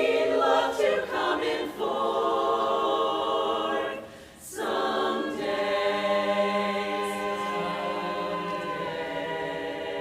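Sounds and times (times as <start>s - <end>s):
a cappella chorus singing chord: 0.0s - 10.0s.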